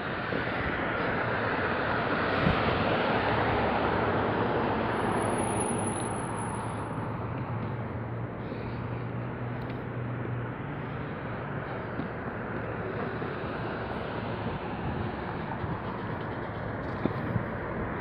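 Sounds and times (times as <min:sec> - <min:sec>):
passing vehicles rushing: 0:00.0 - 0:18.0.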